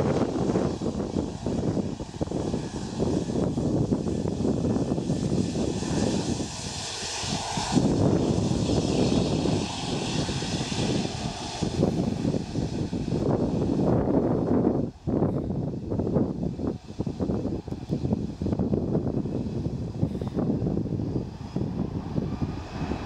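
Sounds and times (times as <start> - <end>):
jet engines at taxi power: 0.0 - 23.0.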